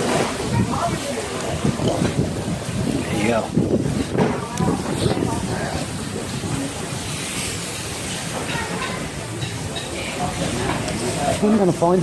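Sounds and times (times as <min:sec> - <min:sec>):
roadside rushing noise: 0:00.0 - 0:12.0.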